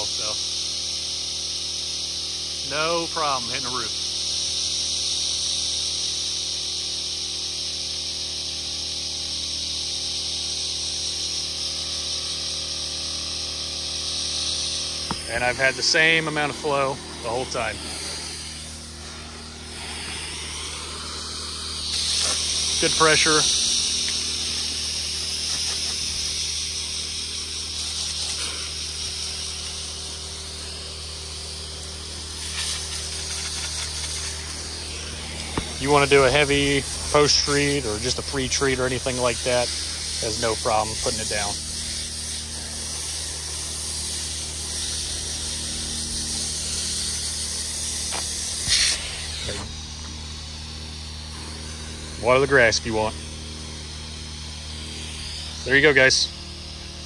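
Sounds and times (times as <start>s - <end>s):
pump engine humming: 0.0s - 57.0s
water spraying from nozzle: 0.0s - 57.0s.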